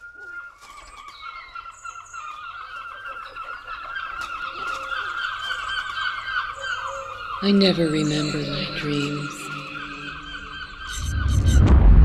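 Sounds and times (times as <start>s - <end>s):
flock of birds chirping: 0.0s - 11.7s.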